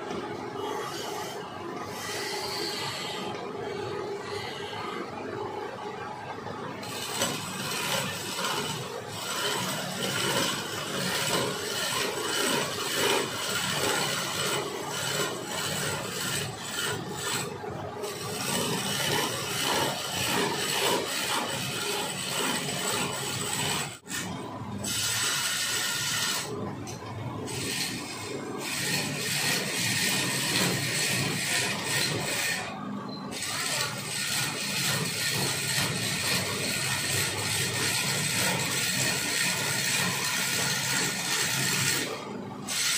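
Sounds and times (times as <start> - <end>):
chisel scraping spinning wood: 0.0 - 4.7, 6.8 - 32.7, 33.3 - 42.9.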